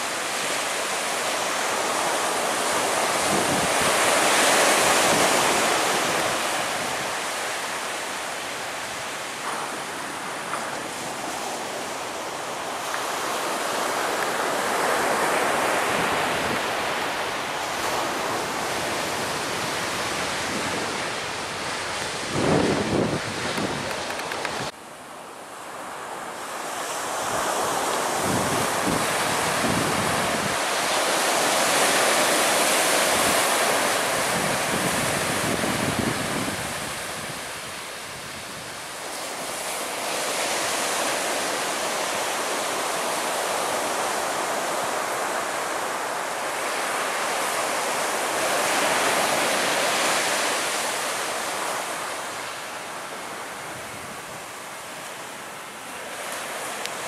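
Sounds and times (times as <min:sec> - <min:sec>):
surf breaking on beach: 0:00.0 - 0:24.7, 0:26.5 - 0:57.0
wind gusting on microphone: 0:01.5 - 0:24.8, 0:26.7 - 0:55.4.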